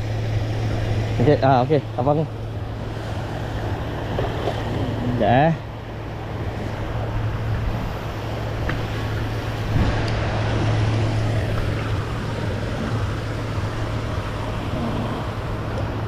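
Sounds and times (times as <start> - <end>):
aerator hum: 0.0 - 16.0.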